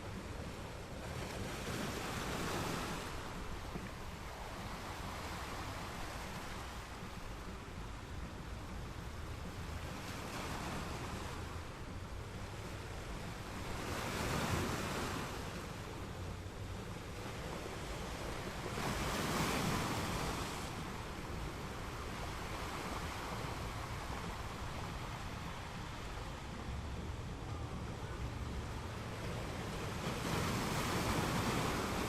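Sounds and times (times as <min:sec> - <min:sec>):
ocean surf washing: 0:00.0 - 0:32.0
waves breaking: 0:00.0 - 0:32.0.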